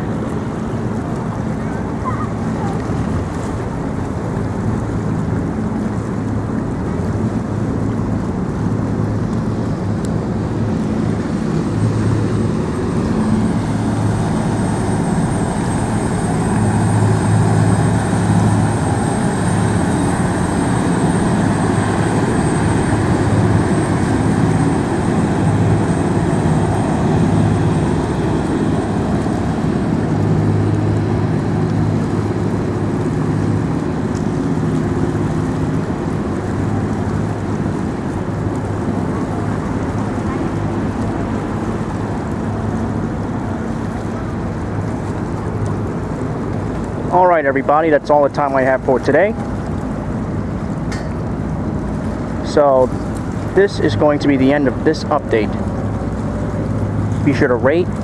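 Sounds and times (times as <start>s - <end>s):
low engine drone: 0.0s - 58.0s
outdoor background noise: 0.0s - 58.0s.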